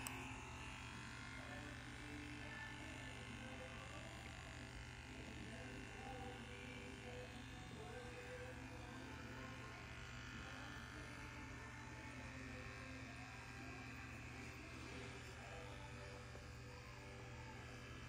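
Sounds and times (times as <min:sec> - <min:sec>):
pet clipper buzzing: 0:00.0 - 0:18.0.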